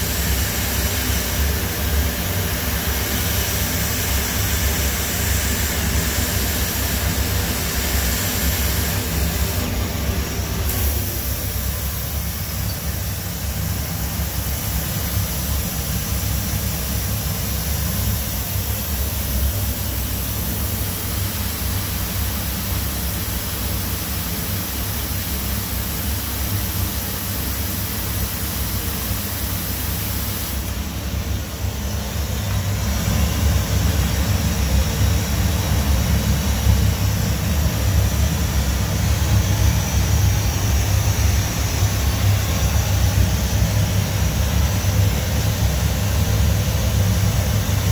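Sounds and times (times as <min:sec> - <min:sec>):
machining center running: 0:00.0 - 0:47.9.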